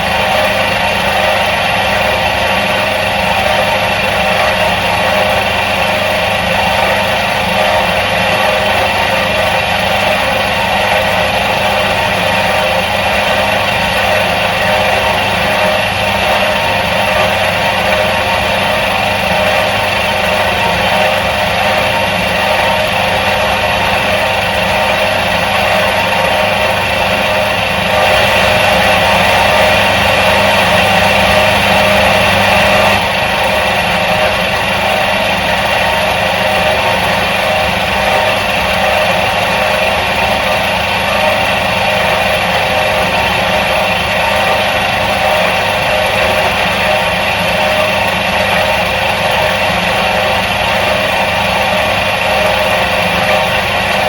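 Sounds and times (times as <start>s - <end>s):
washing machine motor humming: 0.0s - 54.0s.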